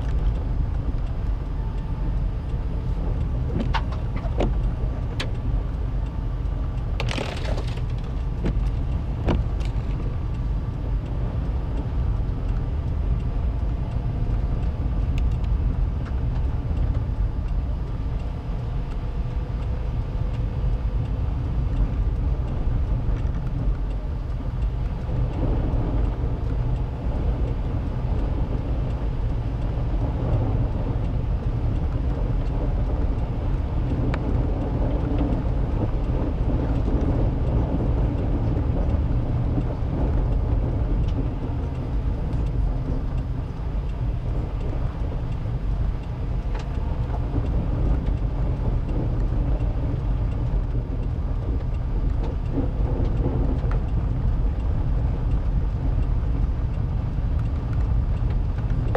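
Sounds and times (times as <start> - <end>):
car engine and tyres rumbling: 0.0 - 58.9
faint tick: 0.0 - 58.9.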